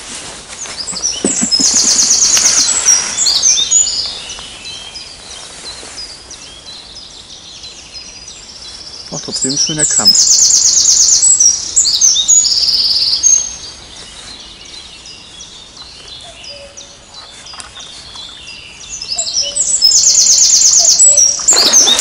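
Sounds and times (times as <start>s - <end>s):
faint bird chirps: 0.6s - 22.0s
songbird trilling song: 0.6s - 22.0s.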